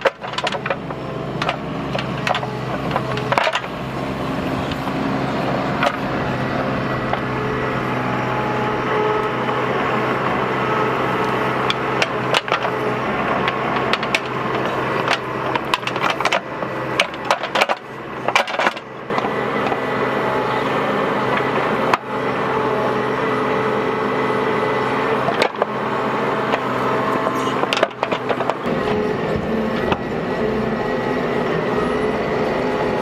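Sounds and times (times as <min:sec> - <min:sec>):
knocks and clunks of digging: 0:00.0 - 0:23.4, 0:24.2 - 0:30.2
excavator diesel engine running: 0:00.0 - 0:33.0.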